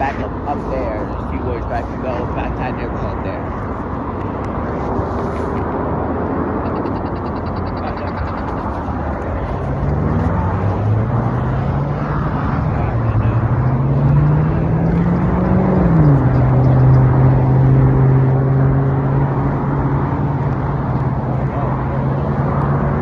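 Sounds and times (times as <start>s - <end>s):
engine hum: 0.0s - 23.0s
road and wind noise: 0.0s - 23.0s.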